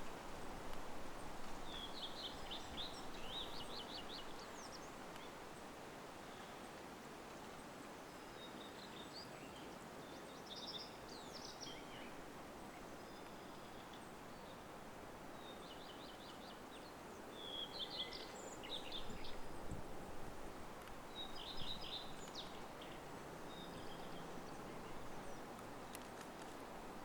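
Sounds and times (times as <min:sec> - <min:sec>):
open-air background hiss: 0:00.0 - 0:27.0
songbirds chirping and trilling: 0:01.2 - 0:06.8, 0:07.7 - 0:19.9, 0:20.9 - 0:26.2.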